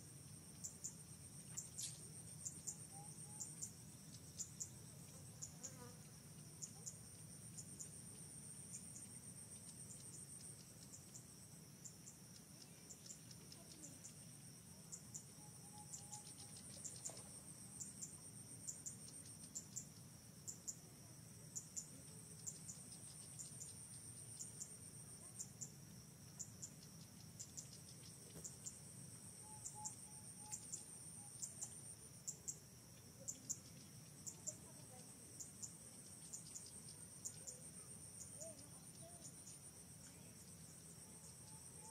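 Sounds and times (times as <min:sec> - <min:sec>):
sharp insect chirps: 0:00.0 - 0:41.9.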